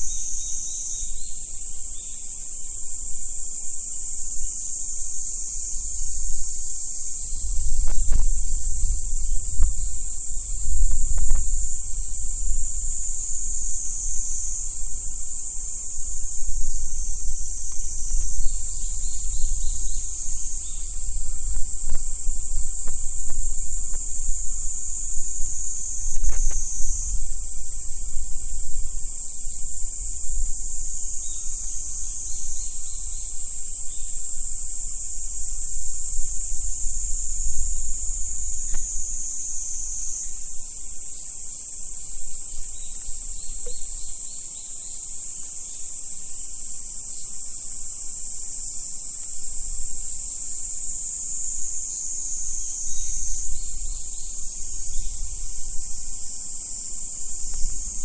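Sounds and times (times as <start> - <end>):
insect chorus shrill drone: 0.0 - 58.0.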